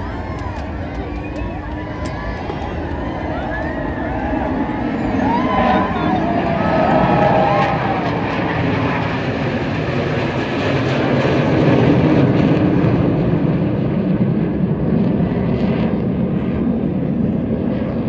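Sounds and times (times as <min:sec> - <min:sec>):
jet aircraft flying past: 0:00.0 - 0:18.0.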